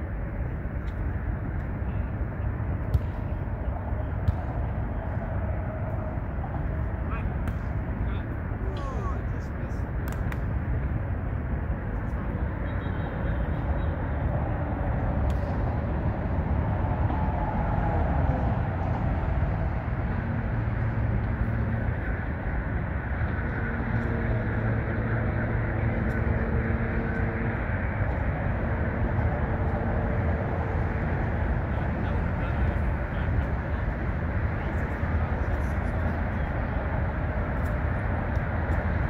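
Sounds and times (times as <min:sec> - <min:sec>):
engine hum: 0:00.0 - 0:39.0
traffic rumble: 0:00.0 - 0:39.0.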